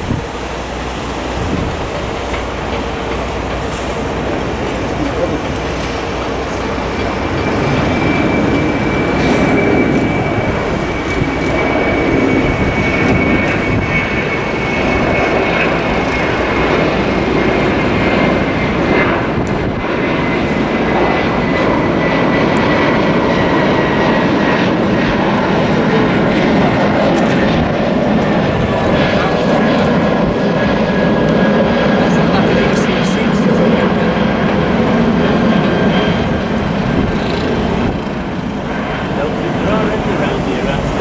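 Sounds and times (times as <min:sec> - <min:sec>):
jet engines roaring at takeoff: 0:00.0 - 0:41.0.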